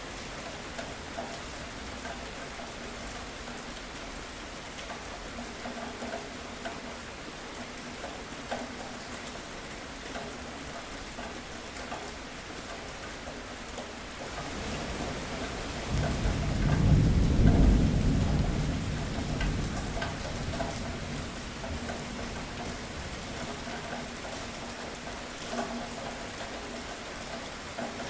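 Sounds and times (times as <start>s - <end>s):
steady rain hiss: 0.0s - 28.0s
raindrops tapping: 0.2s - 28.0s.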